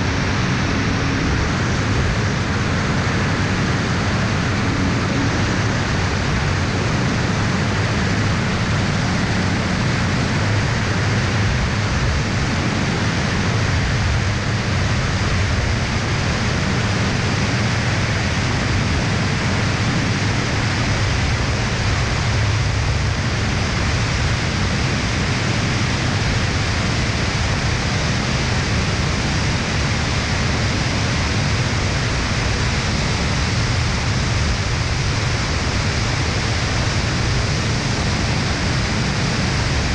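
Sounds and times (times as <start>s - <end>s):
engine and propeller drone: 0.0s - 39.9s
wind rush: 0.0s - 39.9s.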